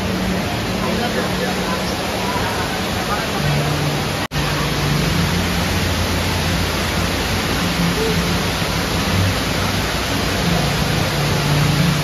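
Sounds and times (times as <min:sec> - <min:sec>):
water cascading down wall: 0:00.0 - 0:12.0.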